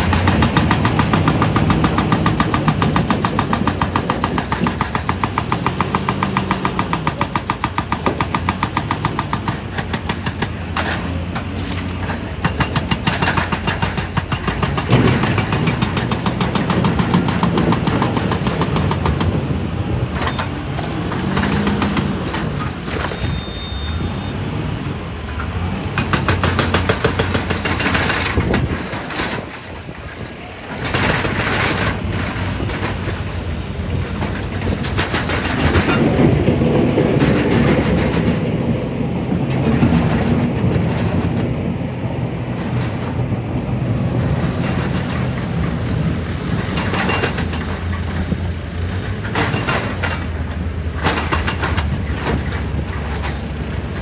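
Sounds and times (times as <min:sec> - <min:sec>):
rock and steel clattering: 0:00.0 - 0:23.8, 0:25.3 - 0:54.0
diesel engine hum: 0:00.0 - 0:54.0.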